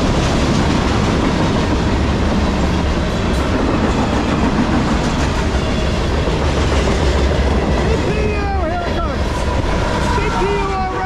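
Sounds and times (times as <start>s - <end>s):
rhythmic clickety-clack: 0.0s - 10.3s
train wheels rumbling on rails: 0.0s - 11.0s.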